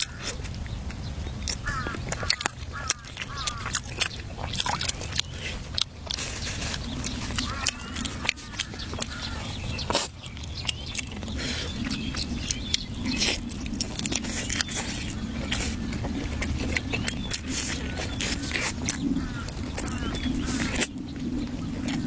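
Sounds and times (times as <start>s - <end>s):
chewing and crunching: 0.0s - 22.0s
steady low hum: 0.0s - 22.0s.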